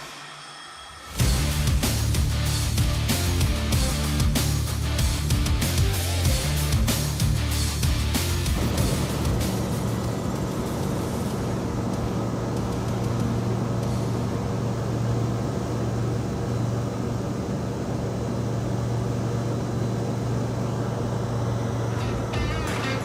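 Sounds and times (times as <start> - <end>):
light aircraft engine drone: 1.1 - 23.0.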